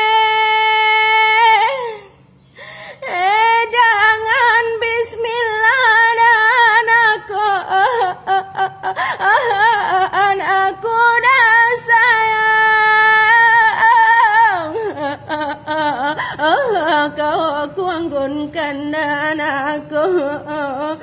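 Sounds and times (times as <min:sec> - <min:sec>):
woman singing unaccompanied: 0:00.0 - 0:02.2, 0:02.8 - 0:21.0.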